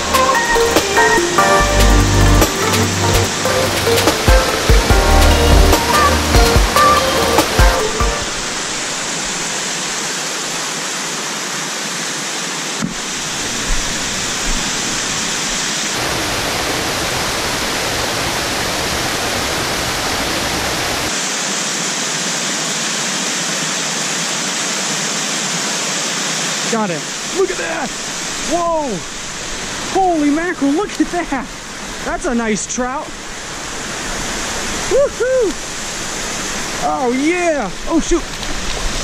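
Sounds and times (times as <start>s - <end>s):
small waterfalls rushing over rock: 3.2s - 39.0s.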